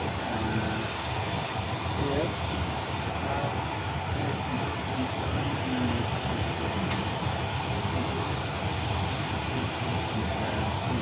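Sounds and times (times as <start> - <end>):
aircraft systems machinery noise: 0.0 - 11.0.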